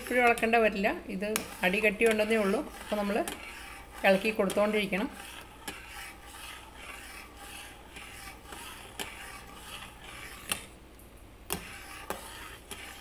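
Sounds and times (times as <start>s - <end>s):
spoon scraping saucepan: 0.0s - 10.8s, 11.5s - 13.0s.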